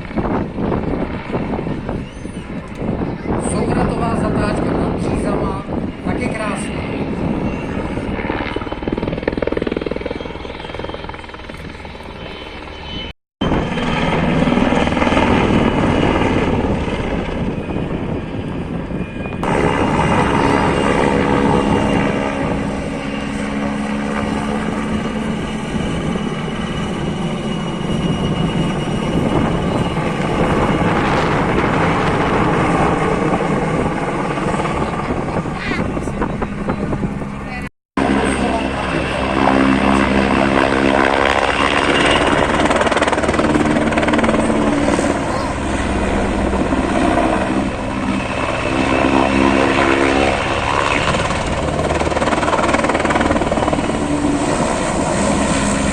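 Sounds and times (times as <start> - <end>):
aircraft engine drone: 0.0 - 55.9.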